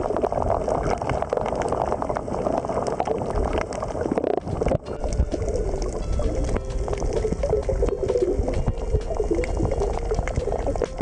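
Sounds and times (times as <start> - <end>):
muffled underwater water noise: 0.0 - 11.0
small crackling clicks: 0.0 - 11.0
water bubbling: 0.0 - 11.0.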